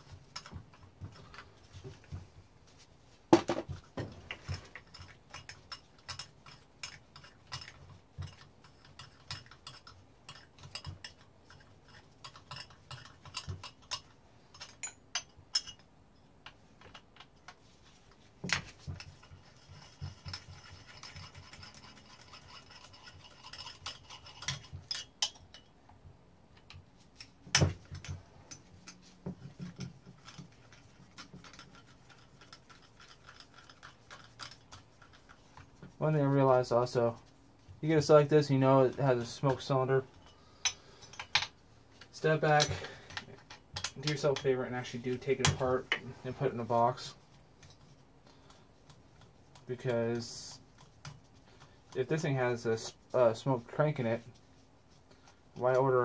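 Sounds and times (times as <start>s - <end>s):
tools clicking and scraping metal parts: 0.0s - 2.2s, 3.7s - 36.0s, 36.8s - 56.0s.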